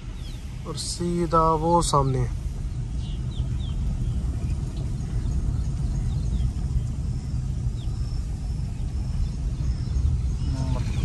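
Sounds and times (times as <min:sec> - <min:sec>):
car tyre and road rumble: 0:00.0 - 0:11.0.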